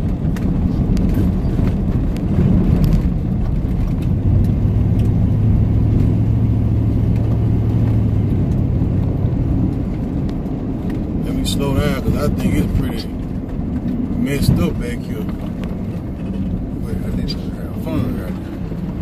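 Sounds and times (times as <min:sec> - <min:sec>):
truck engine and tyre rumble: 0:00.0 - 0:19.0.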